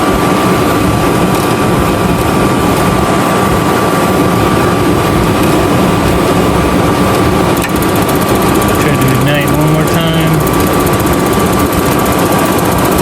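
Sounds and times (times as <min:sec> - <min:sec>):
furnace blower fan whining: 0:00.0 - 0:13.0.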